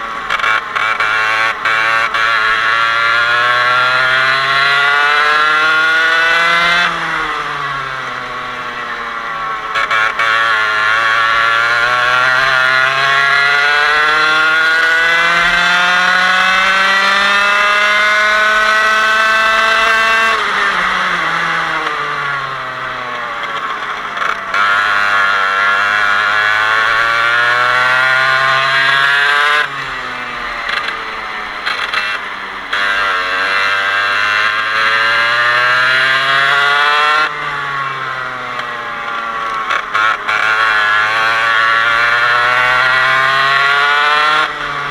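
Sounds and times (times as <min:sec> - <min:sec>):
kart engine revving: 0:00.0 - 0:44.9.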